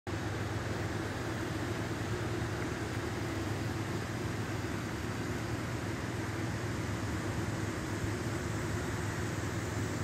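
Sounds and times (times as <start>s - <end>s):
constant hiss: 0.1s - 10.0s.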